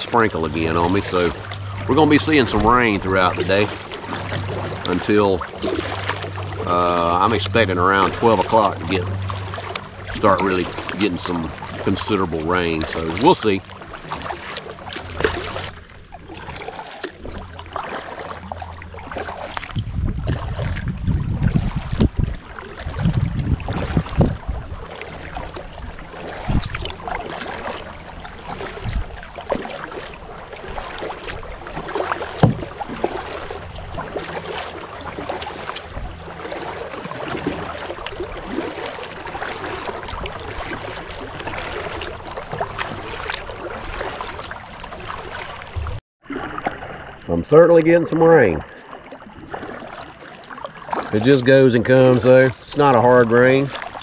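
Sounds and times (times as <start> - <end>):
paddle strokes splashing in water: 0.0 - 54.0.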